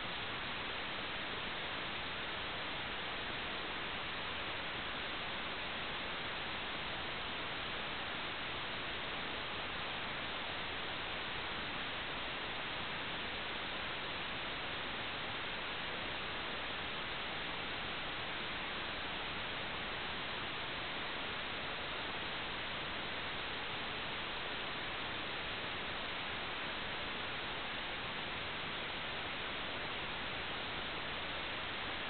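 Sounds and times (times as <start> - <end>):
steady static hiss: 0.0 - 32.0.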